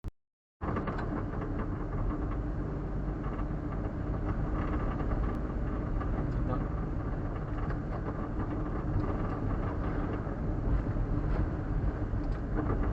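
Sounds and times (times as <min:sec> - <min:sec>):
road rumble: 0:00.6 - 0:12.9
truck engine running: 0:00.6 - 0:12.9.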